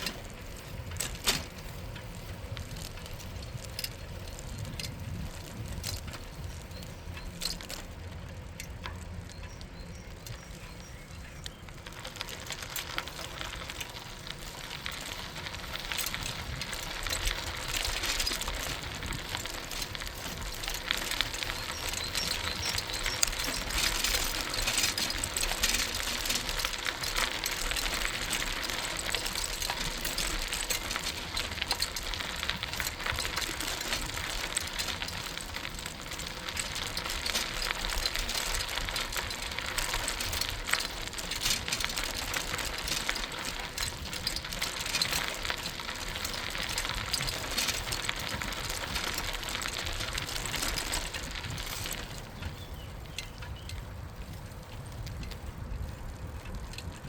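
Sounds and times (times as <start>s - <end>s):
bicycle tyres rolling on path: 0.0s - 57.0s.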